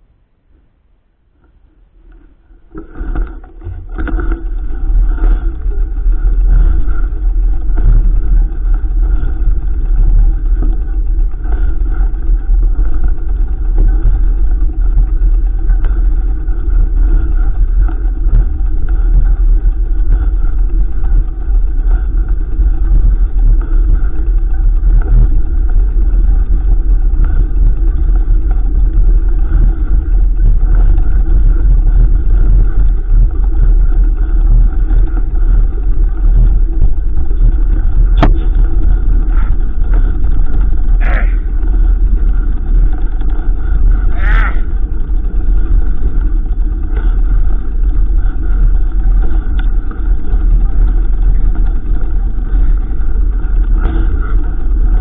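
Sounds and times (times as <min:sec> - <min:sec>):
wind rumble on microphone: 0:00.0 - 0:55.0
bike riding noise: 0:01.3 - 0:55.0.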